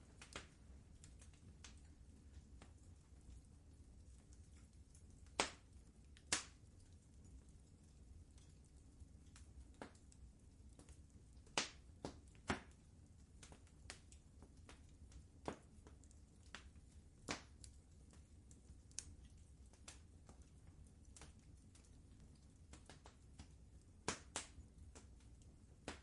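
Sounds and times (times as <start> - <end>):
faint low rumble: 0.0 - 26.0
wood fire crackling: 0.0 - 26.0.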